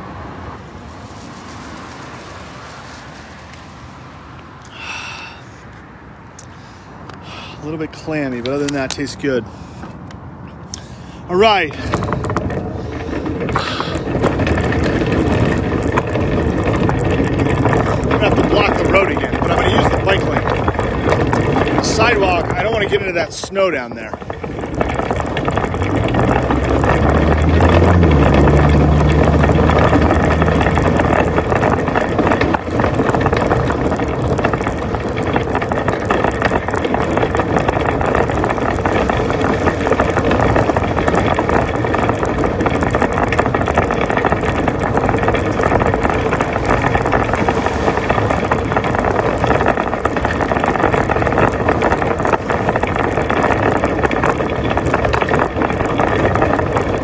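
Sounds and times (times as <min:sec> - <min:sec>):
low engine hum: 0:00.0 - 0:57.0
shopping cart rattling over pavement: 0:00.8 - 0:05.4, 0:07.2 - 0:09.8, 0:10.6 - 0:57.0.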